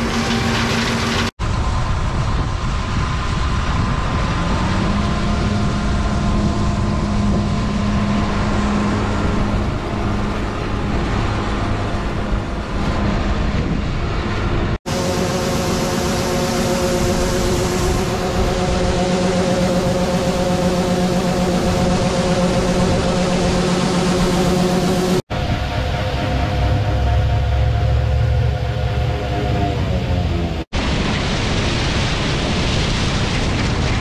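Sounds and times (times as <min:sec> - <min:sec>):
combine harvester droning: 0:00.0 - 0:34.0.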